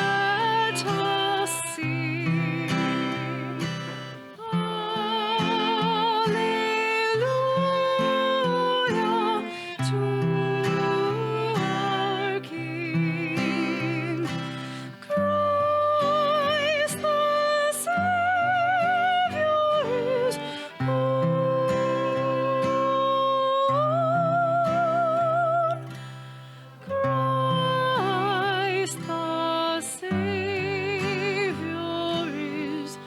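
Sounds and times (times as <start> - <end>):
person singing with vibrato: 0.0 - 26.0, 26.8 - 33.0
acoustic guitar: 0.0 - 33.0.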